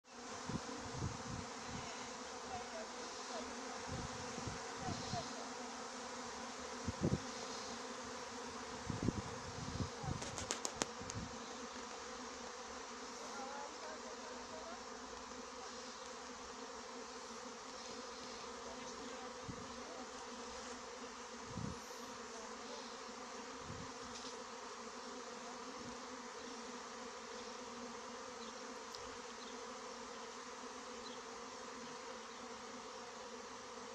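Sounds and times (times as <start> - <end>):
bee swarm buzzing: 0.1 - 33.9.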